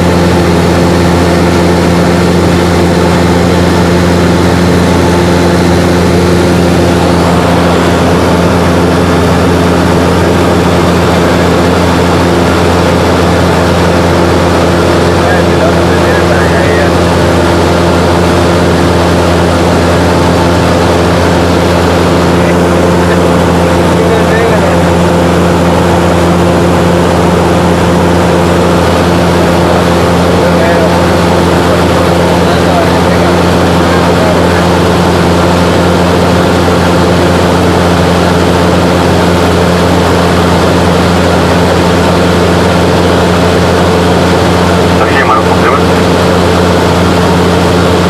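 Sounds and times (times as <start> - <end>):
propeller plane engine droning: 0.0 - 48.0.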